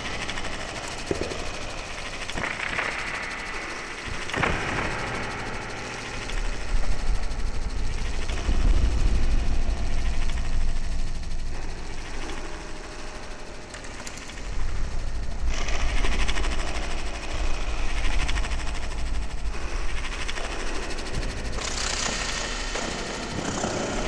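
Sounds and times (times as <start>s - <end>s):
deep synthesizer rumble: 3.4s - 24.0s.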